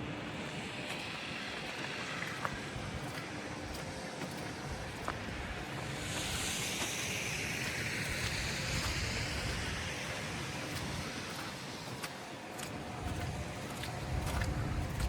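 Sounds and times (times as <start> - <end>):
tyres hissing through slush: 0.0 - 15.0.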